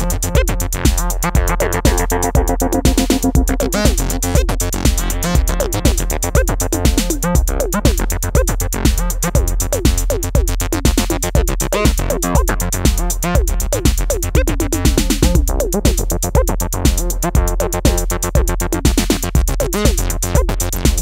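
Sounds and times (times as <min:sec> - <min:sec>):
fast hi-hats: 0:00.0 - 0:21.0
kick drum: 0:00.0 - 0:21.0.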